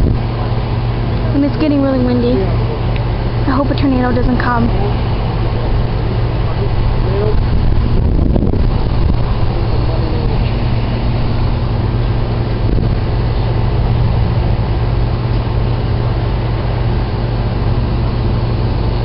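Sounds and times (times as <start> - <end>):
storm wind on microphone: 0.0 - 19.0.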